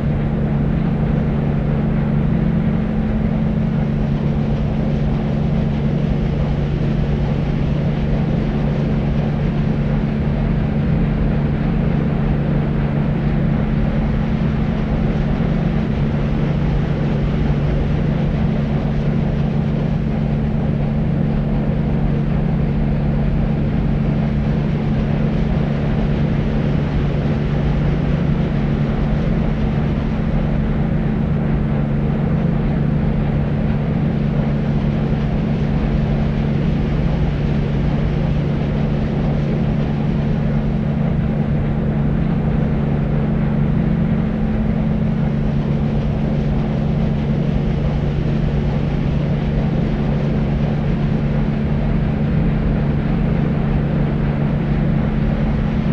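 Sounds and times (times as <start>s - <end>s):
constant low hum: 0.0s - 55.9s
deep rumbling white noise: 0.0s - 55.9s.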